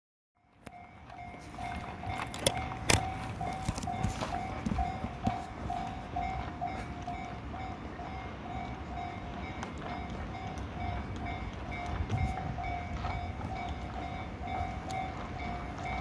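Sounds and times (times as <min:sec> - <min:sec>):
level crossing warning bell clanging: 0:00.4 - 0:16.0.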